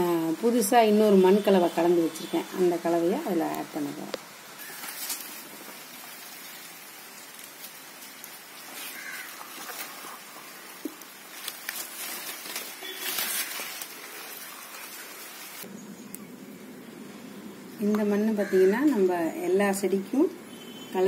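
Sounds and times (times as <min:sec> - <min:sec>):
dry roots and soil crackling: 0:00.0 - 0:16.9
steady hiss: 0:00.0 - 0:21.0.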